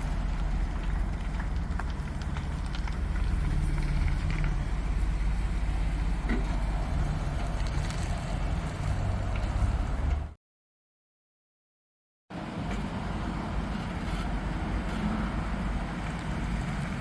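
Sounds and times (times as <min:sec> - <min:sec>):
van engine running: 0:00.0 - 0:10.4, 0:12.3 - 0:17.0.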